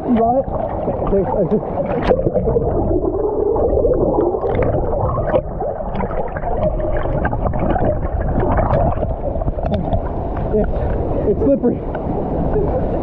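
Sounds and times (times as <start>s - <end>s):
muffled river current rushing: 0.0s - 13.0s.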